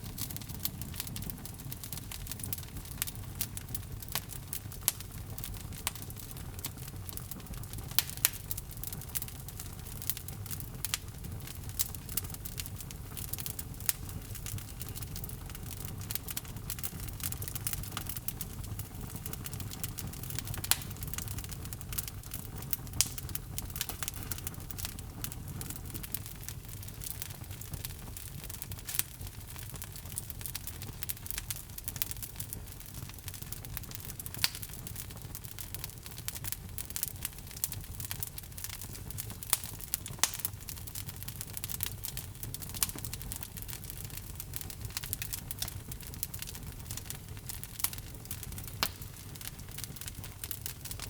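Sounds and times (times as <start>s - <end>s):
sharp pops of fire: 0.0s - 51.0s
wood fire crackling: 0.0s - 51.0s.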